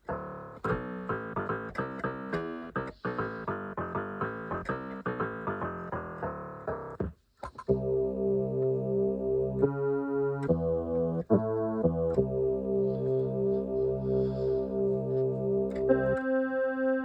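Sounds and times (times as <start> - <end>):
low bass keyboard part: 0.0 - 16.6
electronic keyboard notes: 0.0 - 17.0.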